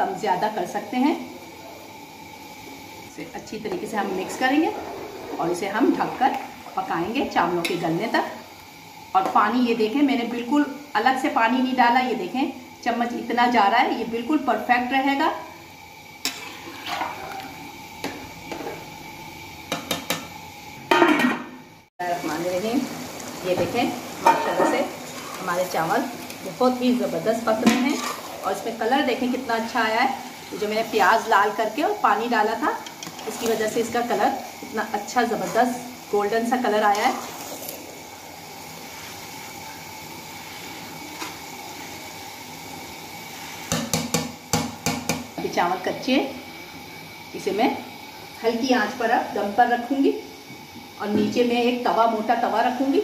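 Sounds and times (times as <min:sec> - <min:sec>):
rice boiling bubbling hiss: 0:00.0 - 0:53.0.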